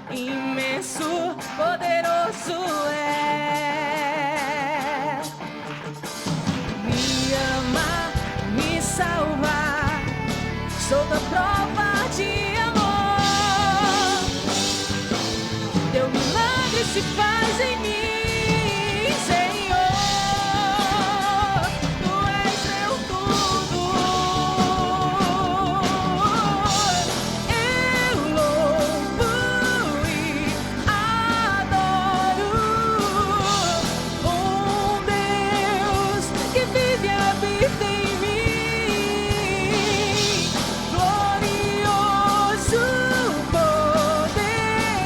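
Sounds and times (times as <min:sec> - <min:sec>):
instrumental backing: 0:02.4 - 0:45.0
vocal group singing worship song: 0:06.9 - 0:15.2, 0:15.8 - 0:45.0.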